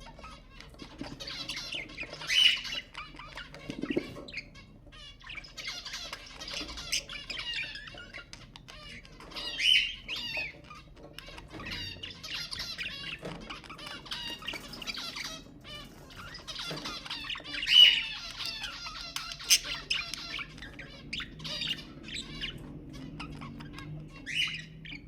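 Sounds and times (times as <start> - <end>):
budgerigars chattering and warbling: 0.0 - 25.0
loud bird squawks: 0.0 - 25.0.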